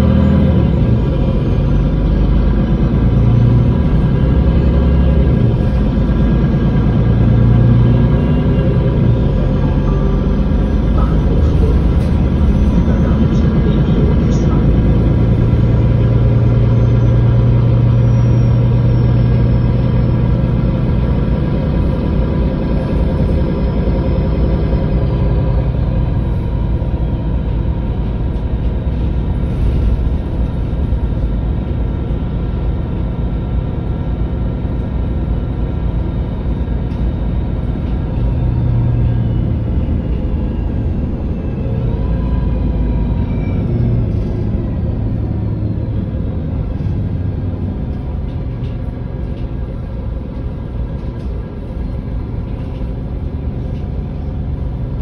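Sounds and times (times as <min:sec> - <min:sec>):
bus diesel engine idling: 0:00.0 - 0:55.0.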